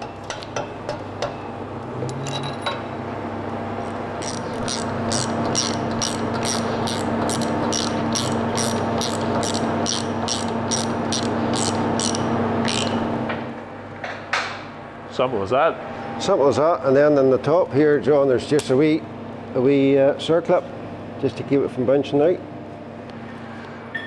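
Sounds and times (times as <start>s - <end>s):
workshop machinery hum: 0.0s - 24.0s.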